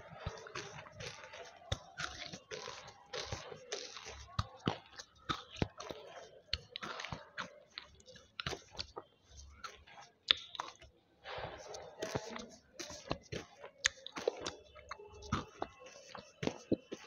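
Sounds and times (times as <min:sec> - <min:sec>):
wet mouth sounds: 0:00.1 - 0:17.0
crystals crunching while chewed: 0:00.2 - 0:10.9, 0:12.0 - 0:17.0.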